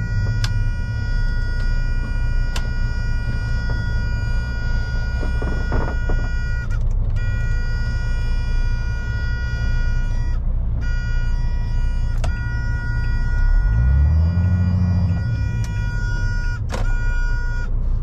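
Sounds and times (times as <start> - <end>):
high whine: 0.0 - 17.7
diesel engine running: 0.0 - 18.0.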